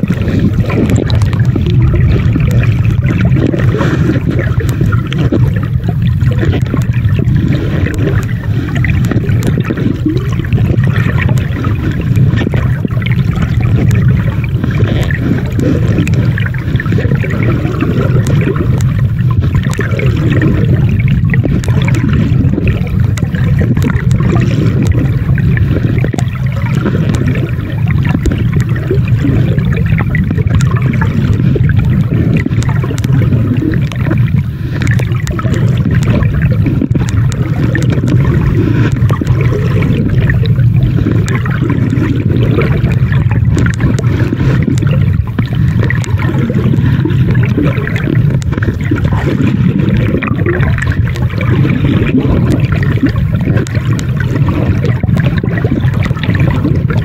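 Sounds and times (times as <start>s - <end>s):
muffled underwater rushing water: 0.0s - 57.0s
small clicks and crackles: 0.0s - 57.0s.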